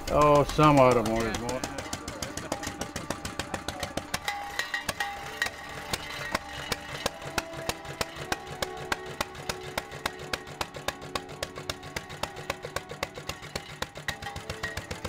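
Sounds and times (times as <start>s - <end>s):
background music: 0.0s - 15.0s
flywheel engine knocking: 0.0s - 15.0s.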